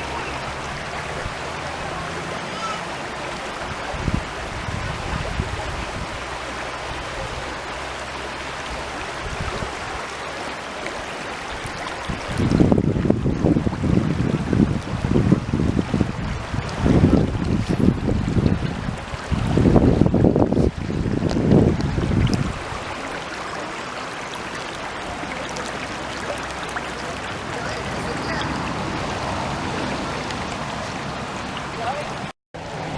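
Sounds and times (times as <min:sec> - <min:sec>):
stream water running: 0:00.0 - 0:32.9
wind buffeting microphone: 0:03.5 - 0:07.6, 0:08.6 - 0:10.1, 0:11.5 - 0:32.9.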